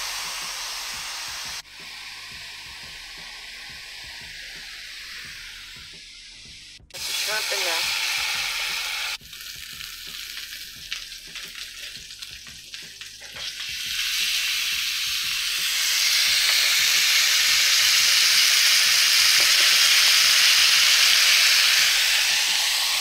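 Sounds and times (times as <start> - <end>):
steaks sizzling on a griddle: 0.0 - 23.0.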